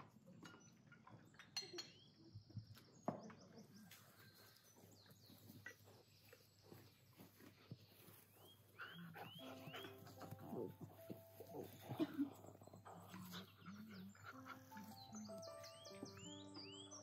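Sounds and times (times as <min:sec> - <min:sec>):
faint birdsong chirps: 0:00.4 - 0:17.0.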